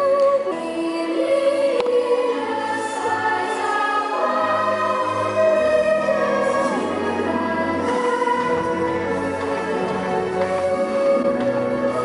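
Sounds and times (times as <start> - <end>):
choir singing long held notes: 0.0 - 12.0.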